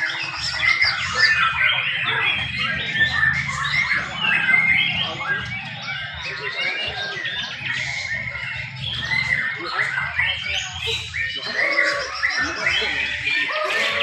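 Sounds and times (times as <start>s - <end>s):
birds singing: 0.0s - 14.0s
low background murmur: 0.0s - 14.0s.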